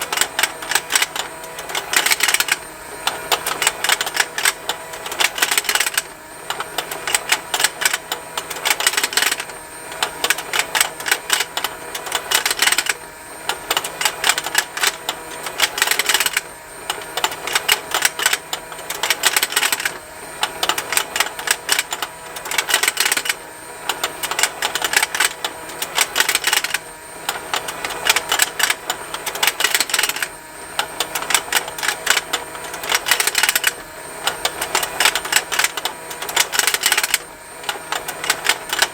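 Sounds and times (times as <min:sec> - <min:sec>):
toy motor plastic ticking: 0:00.0 - 0:38.9.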